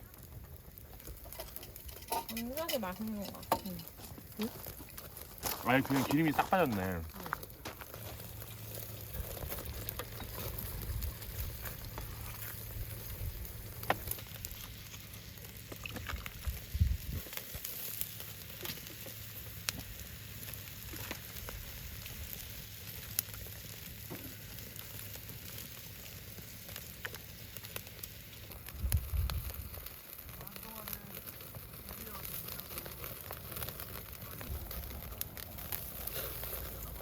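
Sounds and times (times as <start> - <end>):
crackles and pops: 0.0 - 37.0
meat sizzling on a grill: 0.0 - 37.0.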